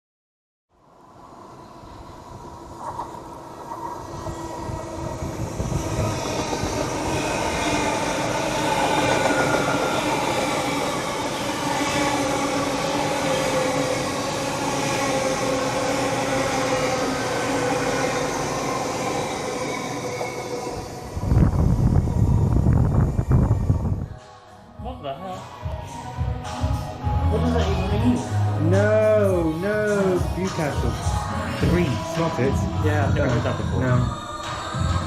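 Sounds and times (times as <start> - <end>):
diesel train engine running: 1.3 - 23.9, 25.8 - 35.0.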